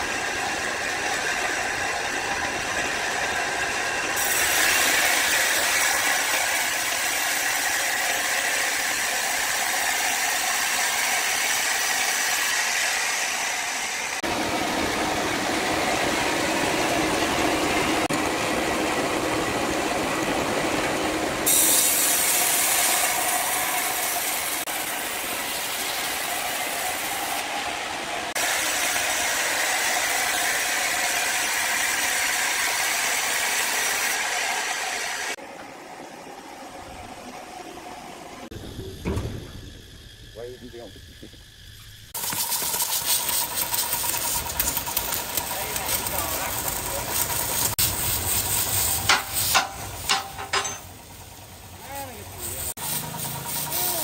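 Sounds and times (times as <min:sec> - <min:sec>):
woodworking machinery running: 0:00.0 - 0:54.0.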